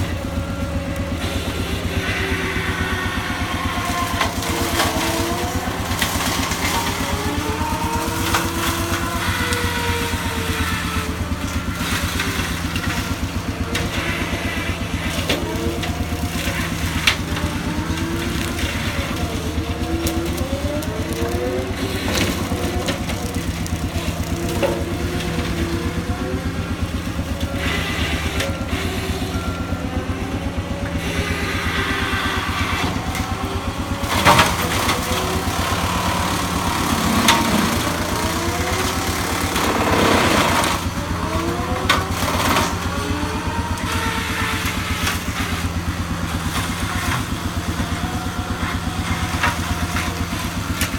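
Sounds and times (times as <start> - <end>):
loud crunching bursts: 0.0 - 30.1, 31.0 - 50.9
hydraulic whine: 0.0 - 50.9
skid steer engine running: 0.0 - 50.9.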